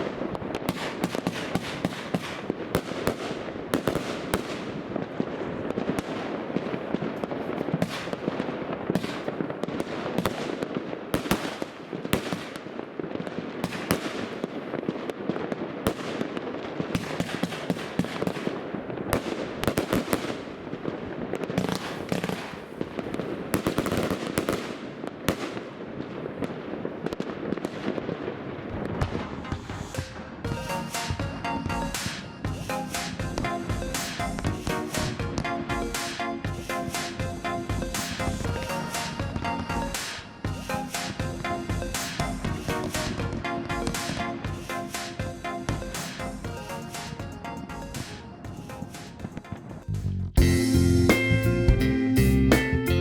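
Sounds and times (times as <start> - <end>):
firework barrage cracking: 0.0 - 49.9.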